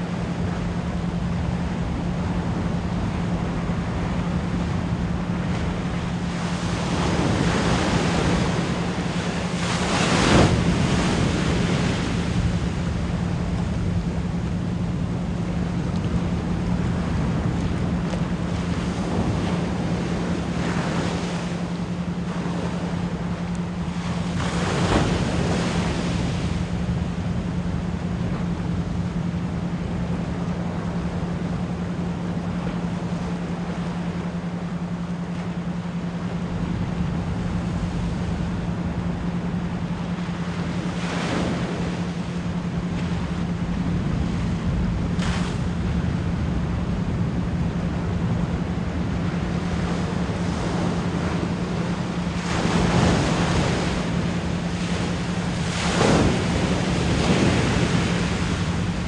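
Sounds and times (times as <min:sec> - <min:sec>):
low pure tone hum: 0:00.0 - 0:59.0
ocean waves breaking: 0:00.0 - 0:59.0.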